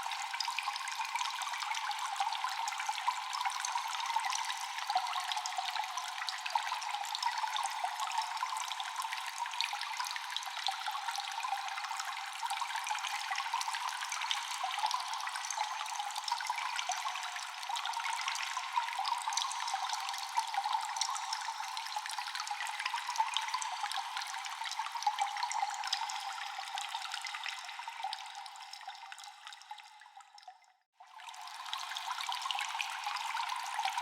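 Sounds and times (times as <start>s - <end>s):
water dripping in a cave: 0.0s - 34.0s.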